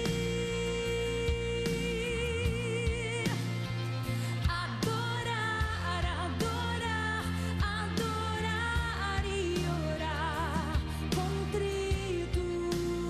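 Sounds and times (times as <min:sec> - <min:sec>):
instrumental accompaniment with bass: 0:00.0 - 0:13.0
woman singing into a microphone: 0:00.0 - 0:13.0.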